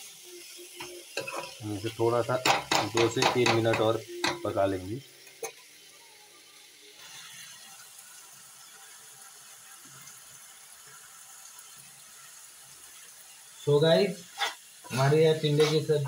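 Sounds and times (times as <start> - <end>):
food hissing in a pan: 0.0 - 16.0.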